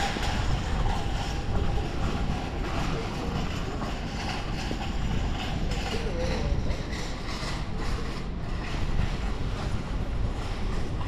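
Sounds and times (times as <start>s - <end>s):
faint city ambience: 0.0s - 11.0s
wind rumble on microphone: 0.0s - 11.0s.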